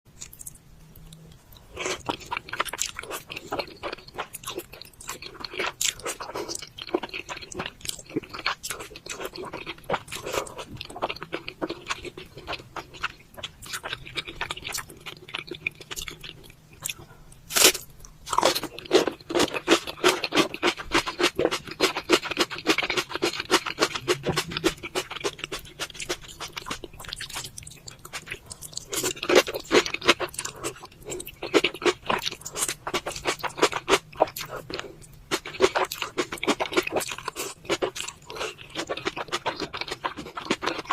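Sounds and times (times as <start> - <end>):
crunchy food being chewed: 0.1 - 40.9.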